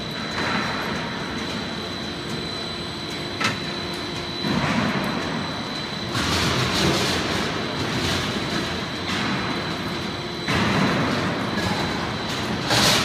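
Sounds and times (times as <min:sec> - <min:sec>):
roll forming machine running: 0:00.0 - 0:13.0.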